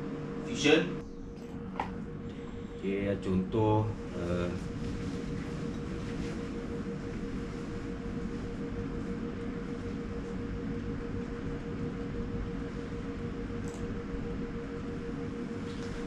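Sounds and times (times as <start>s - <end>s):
mechanical hum and rumble: 0.0s - 16.0s.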